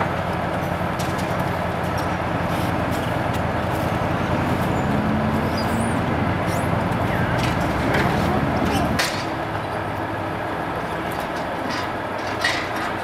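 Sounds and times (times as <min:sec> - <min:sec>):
road traffic with idling engines: 0:00.0 - 0:13.0.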